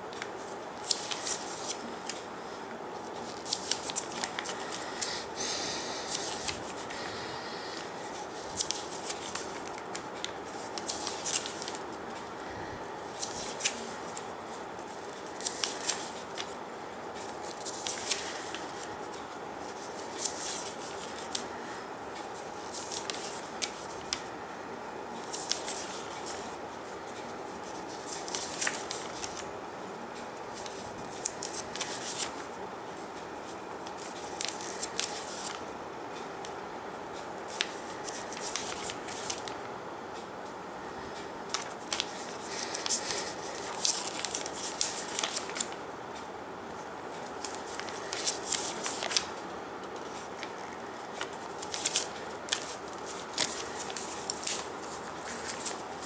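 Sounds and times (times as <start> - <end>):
background hiss: 0.0 - 56.0
paper pages turning: 0.1 - 2.2, 3.0 - 16.6, 17.2 - 24.3, 25.2 - 26.6, 27.6 - 29.4, 30.4 - 33.0, 33.9 - 35.6, 37.5 - 39.6, 41.5 - 45.8, 47.2 - 56.0.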